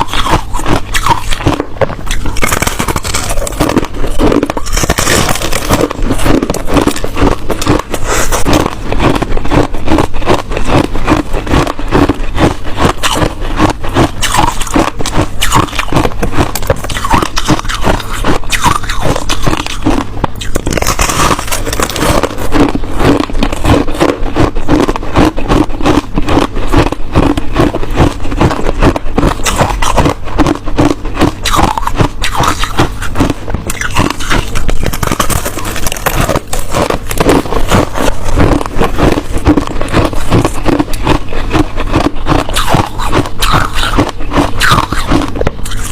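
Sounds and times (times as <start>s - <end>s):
ice crunching being chewed: 0.0s - 45.9s.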